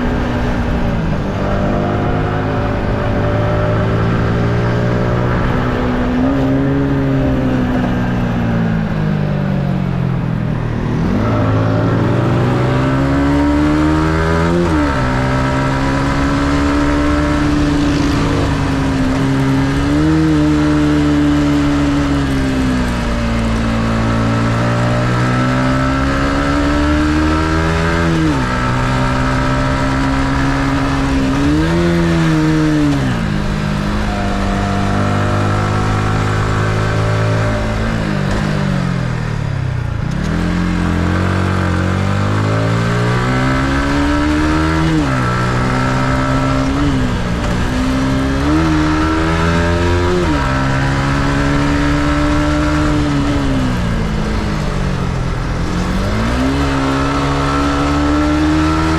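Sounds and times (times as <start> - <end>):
motorcycle engine revving through gears: 0.0 - 58.9.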